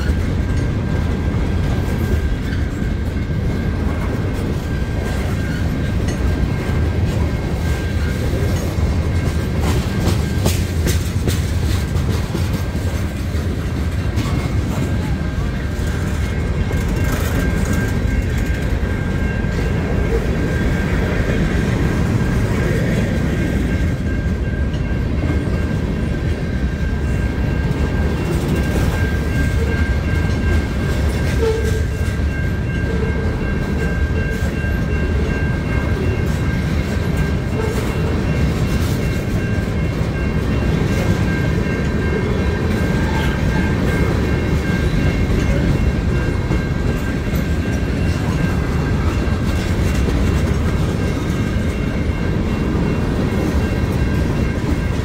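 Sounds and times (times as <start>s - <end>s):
wheels clicking over rail joints: 0.0s - 26.4s, 27.6s - 55.0s
train wheels rumbling on rail: 0.0s - 55.0s.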